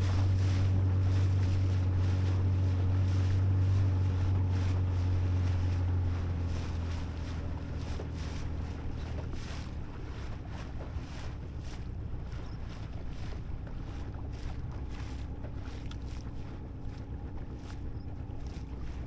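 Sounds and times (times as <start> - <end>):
outboard motor running: 0.0 - 19.0
water rushing by: 0.0 - 19.0
wind buffeting microphone: 0.0 - 19.0.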